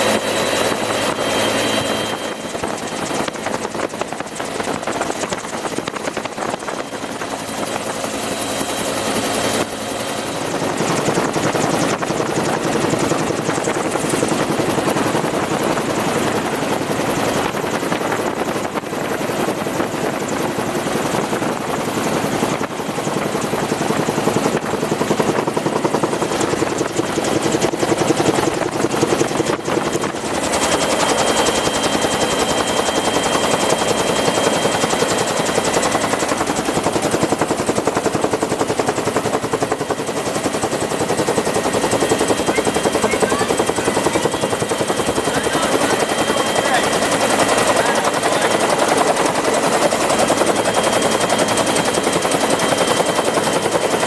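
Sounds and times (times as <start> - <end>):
helicopter rotor beating: 0.0 - 54.0.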